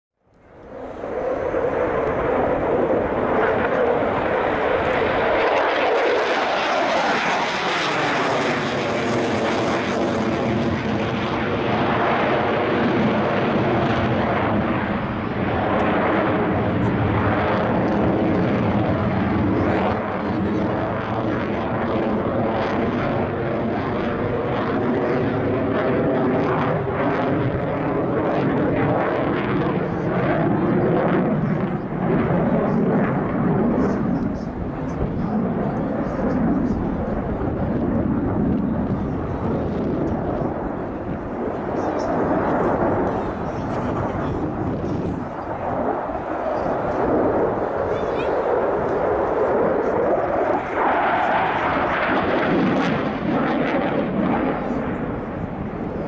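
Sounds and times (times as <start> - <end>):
jet engines roaring: 0.3 - 56.0.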